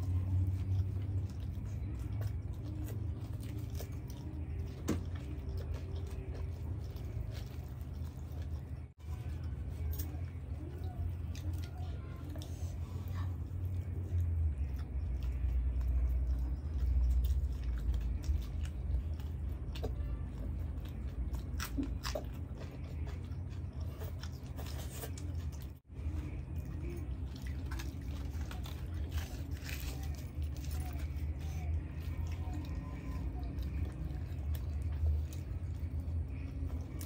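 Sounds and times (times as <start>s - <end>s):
low steady hum: 0.0s - 37.0s
people chewing and crunching food: 0.0s - 37.0s.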